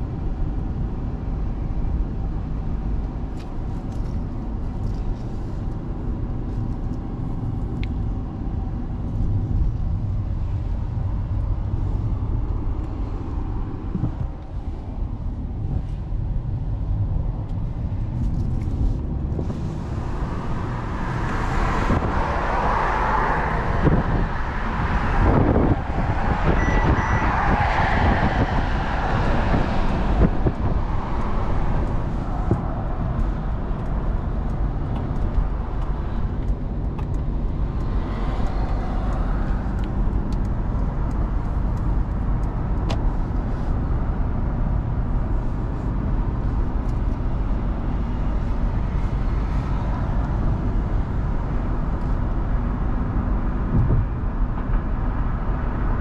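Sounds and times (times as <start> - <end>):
bus passing alongside: 0.0 - 56.0
road and engine hum in car: 0.0 - 56.0.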